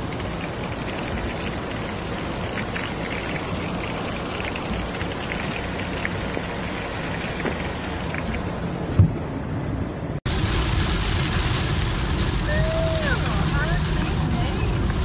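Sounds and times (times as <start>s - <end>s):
rain drops ticking: 0.0s - 8.6s, 10.3s - 15.0s
heavy rain on a car: 0.0s - 9.0s, 10.3s - 15.0s.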